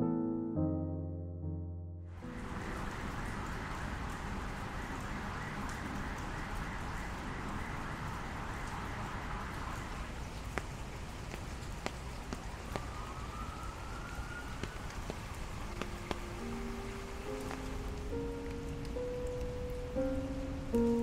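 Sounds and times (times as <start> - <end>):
steady rain hiss: 2.2 - 21.0.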